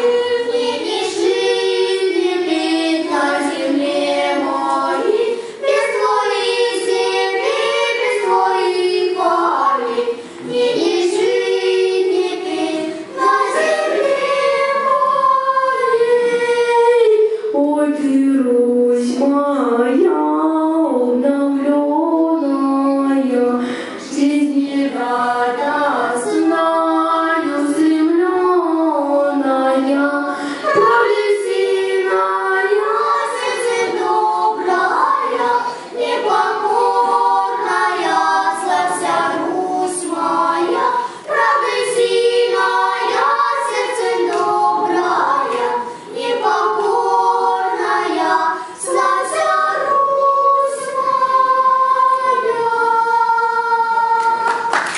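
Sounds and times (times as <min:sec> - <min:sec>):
girl singing into microphone: 0:00.0 - 0:54.7
children's choir singing: 0:00.0 - 0:54.9.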